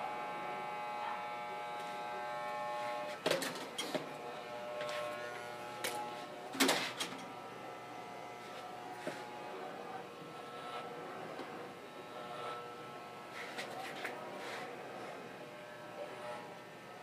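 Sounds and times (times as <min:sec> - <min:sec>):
electric hair clippers humming: 0:00.0 - 0:13.7, 0:15.4 - 0:16.8.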